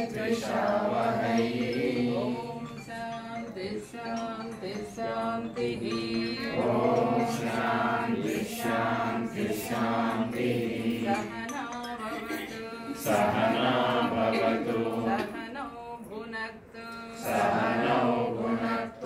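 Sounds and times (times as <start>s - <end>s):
voices chanting together: 0.0s - 15.8s, 16.8s - 19.0s.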